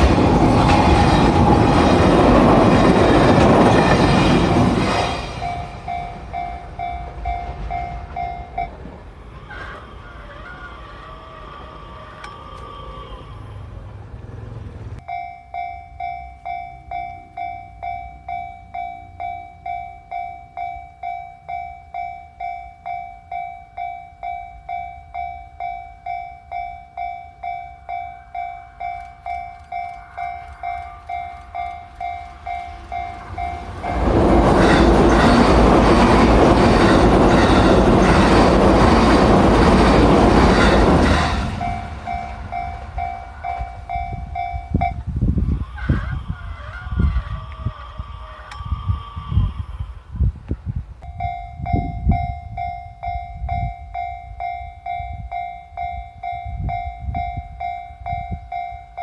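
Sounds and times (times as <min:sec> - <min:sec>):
level crossing warning bell: 0:00.0 - 0:09.1, 0:15.0 - 0:45.2, 0:51.0 - 0:59.0
train passing with wheel clatter: 0:00.0 - 0:59.0.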